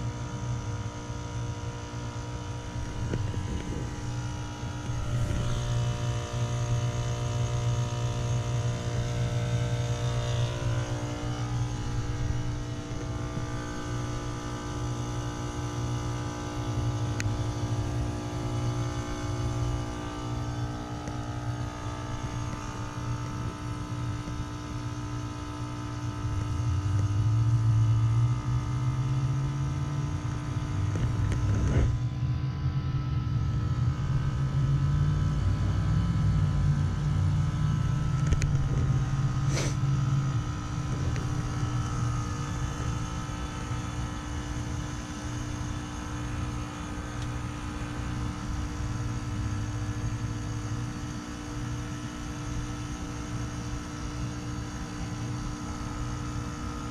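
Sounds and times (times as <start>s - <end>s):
heat pump humming: 0.0s - 56.9s.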